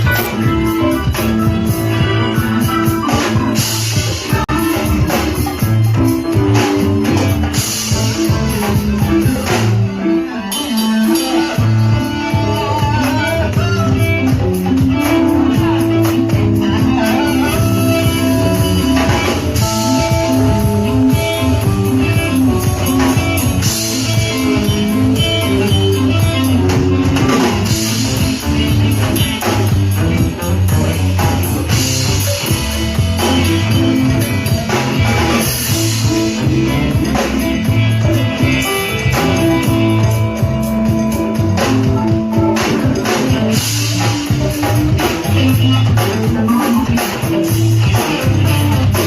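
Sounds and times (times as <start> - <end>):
drums: 0.0 - 49.0
electric guitar: 0.0 - 49.0
sustained bass notes: 0.0 - 49.0.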